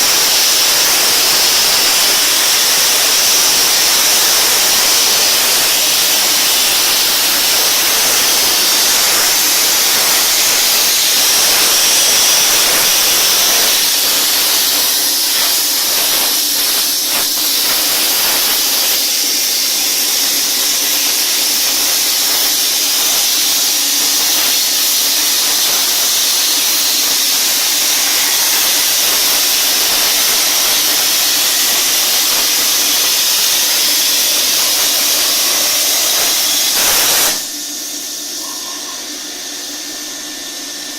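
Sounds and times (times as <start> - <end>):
plasma arc crackling: 0.0 - 40.9
plasma torch hissing: 0.0 - 40.9.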